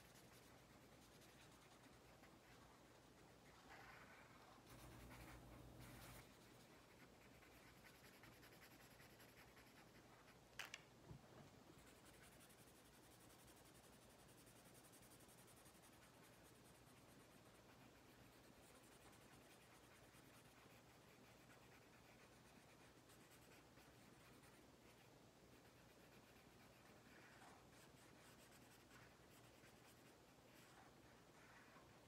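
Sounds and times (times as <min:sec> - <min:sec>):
marker scratching on paper: 0:00.0 - 0:10.4, 0:11.8 - 0:31.9.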